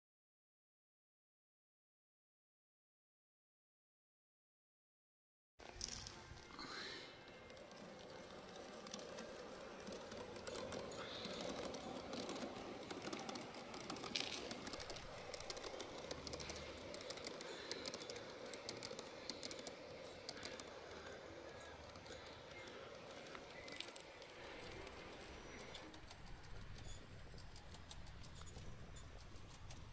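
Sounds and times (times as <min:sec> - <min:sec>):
wheels clicking on rails: 0:05.6 - 0:29.9
model train motor hum: 0:05.8 - 0:29.9.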